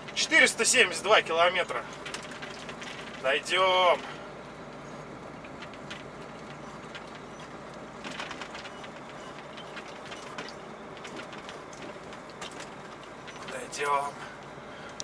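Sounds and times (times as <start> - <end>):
light clicks and rattles: 0.0 - 15.0
truck cab running noise: 0.0 - 15.0.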